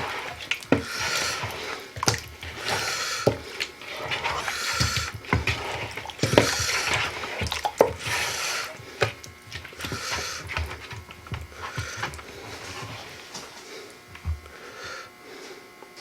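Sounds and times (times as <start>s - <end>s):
hands squishing wet marinade: 0.0s - 14.3s.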